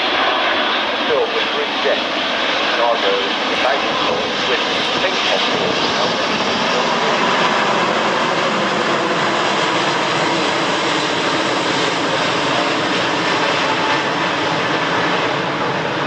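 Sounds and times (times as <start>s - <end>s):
jet airliner rumble overhead: 0.0s - 16.0s.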